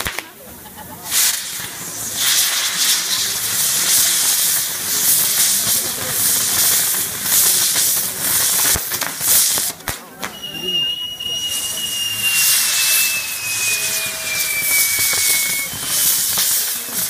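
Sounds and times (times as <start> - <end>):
firework wheel hissing: 0.0 - 17.0.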